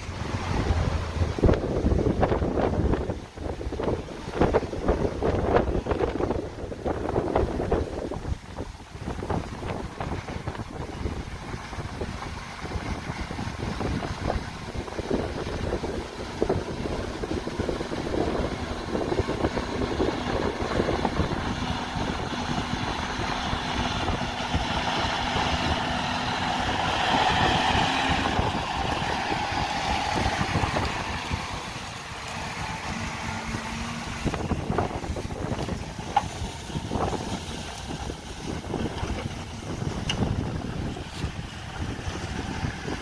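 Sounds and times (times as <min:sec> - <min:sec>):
tractor diesel engine under load: 0:00.0 - 0:43.0
wind buffeting microphone: 0:00.0 - 0:43.0.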